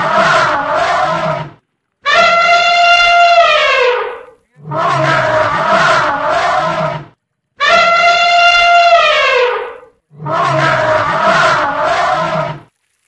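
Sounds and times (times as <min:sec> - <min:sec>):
elephant trumpeting: 0:00.0 - 0:12.6.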